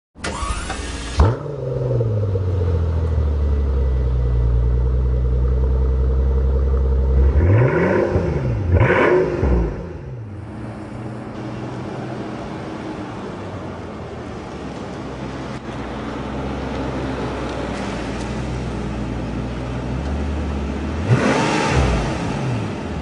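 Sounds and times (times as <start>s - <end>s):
car engine idling: 0.2s - 7.7s, 9.5s - 23.0s.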